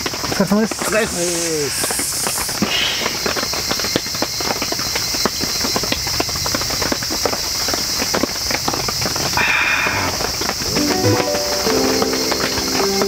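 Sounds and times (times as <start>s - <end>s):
insect chorus hissing: 0.0s - 13.0s.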